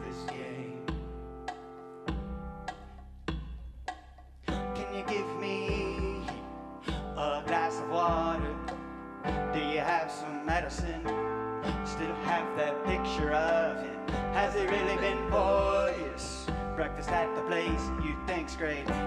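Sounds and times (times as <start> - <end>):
keyboard and synthesizer chords: 0.0 - 3.7, 4.5 - 19.0
bass line: 2.1 - 19.0.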